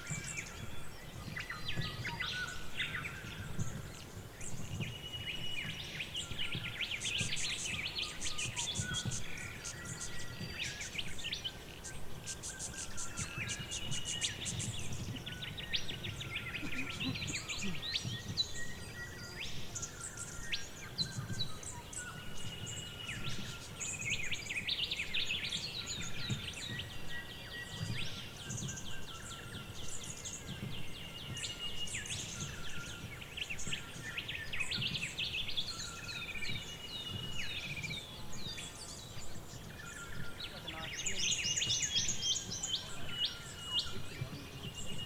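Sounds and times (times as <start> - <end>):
birds singing and calling: 0.0 - 45.0.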